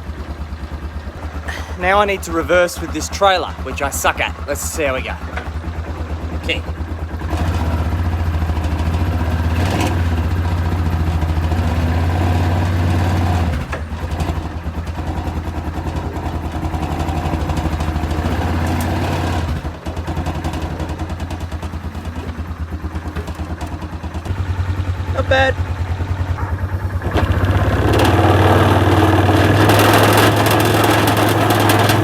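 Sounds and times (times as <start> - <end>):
quad bike engine at low revs: 0.0 - 32.0.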